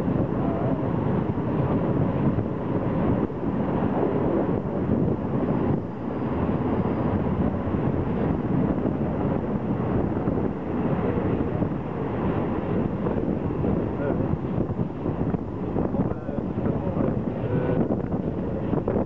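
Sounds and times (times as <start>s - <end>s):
passenger train rumble: 0.0s - 19.0s
wind buffeting microphone: 0.0s - 19.0s.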